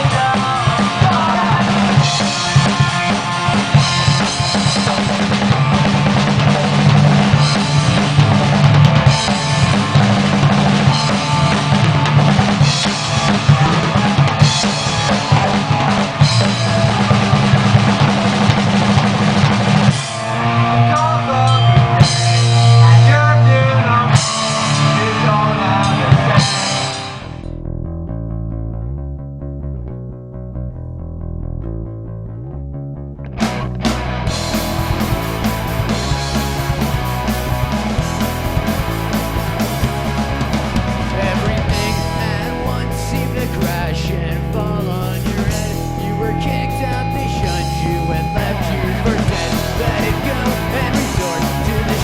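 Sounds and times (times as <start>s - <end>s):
drum kit: 0.0s - 27.6s, 33.3s - 52.0s
rock band playing live: 0.0s - 27.6s, 33.3s - 52.0s
bass guitar: 0.0s - 52.0s.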